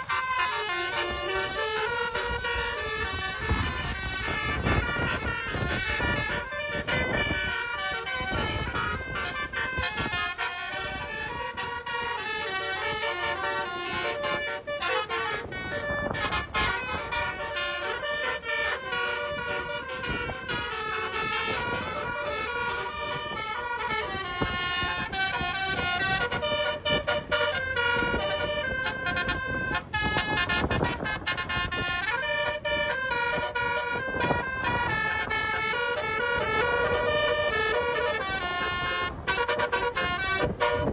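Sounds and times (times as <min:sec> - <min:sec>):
multi-tone bus horn melody: 0:00.0 - 0:40.9
vehicle noise: 0:00.0 - 0:40.9.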